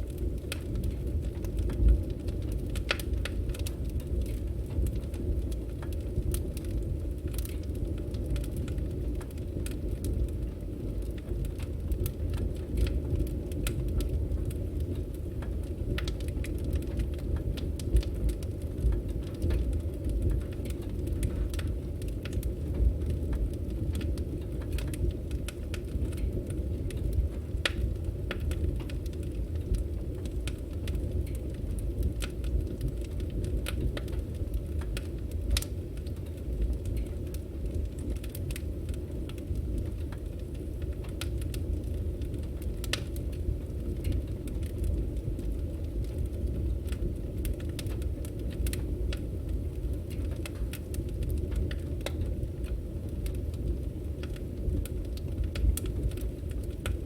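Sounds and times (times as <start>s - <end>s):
firewood crackling and popping: 0.0s - 57.0s
low rumble of flames: 0.0s - 57.0s.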